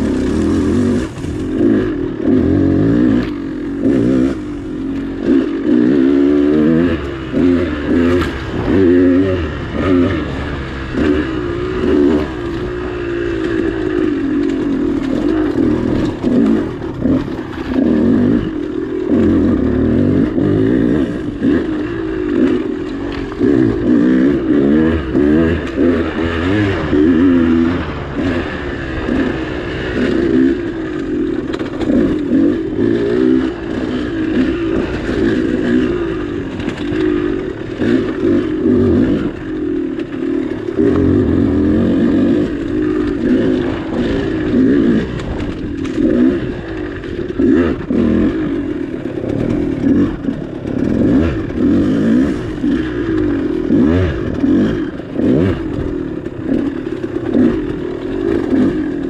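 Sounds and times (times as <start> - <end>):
bike clatter and scraping: 0.0 - 2.3, 7.0 - 59.0
dirt bike engine revving: 0.0 - 59.0.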